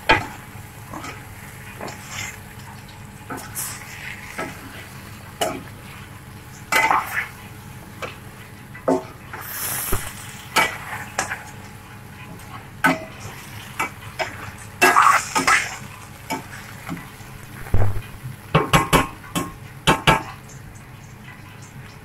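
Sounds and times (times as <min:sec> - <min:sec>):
faint sizzle: 0:00.0 - 0:22.0.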